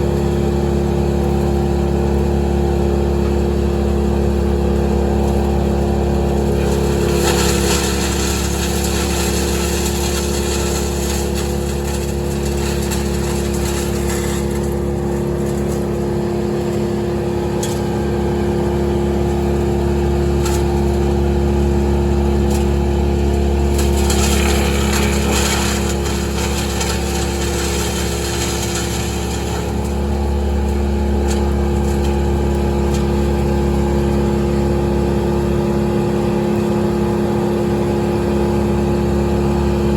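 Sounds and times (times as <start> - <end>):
large engine running steadily: 0.0 - 39.9.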